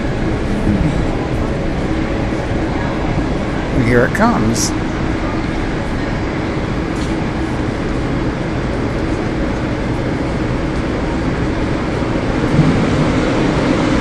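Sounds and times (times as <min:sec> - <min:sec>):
tram rushing rumble: 0:00.0 - 0:14.0.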